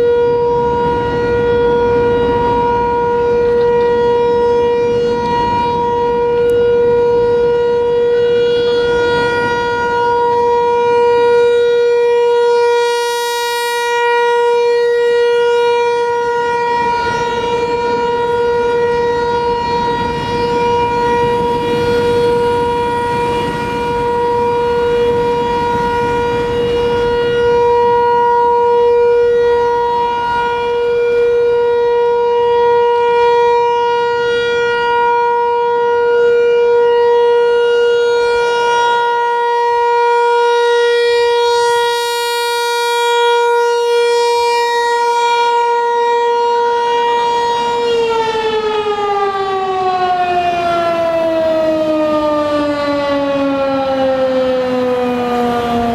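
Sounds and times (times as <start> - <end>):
rotating warning siren: 0.0 - 55.9.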